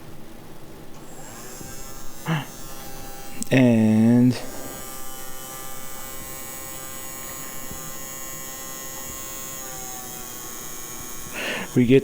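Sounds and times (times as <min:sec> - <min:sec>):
small electric motor whining: 0:01.0 - 0:12.0.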